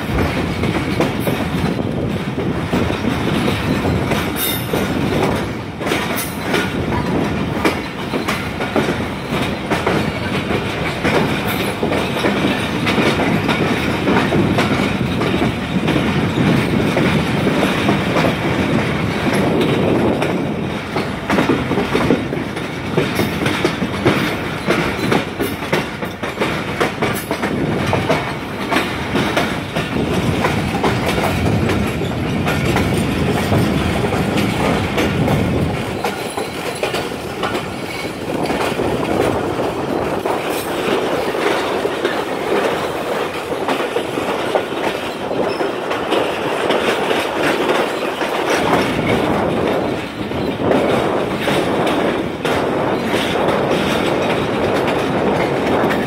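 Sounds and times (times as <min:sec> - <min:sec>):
train coaches rumbling: 0:00.0 - 0:56.0
wheels clicking over rail joints: 0:00.0 - 0:56.0.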